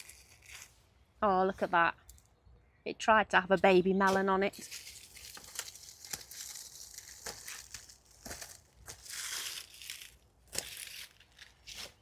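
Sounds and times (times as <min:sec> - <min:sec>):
dry leaves and stems rustling: 0:00.0 - 0:02.3, 0:03.5 - 0:12.0.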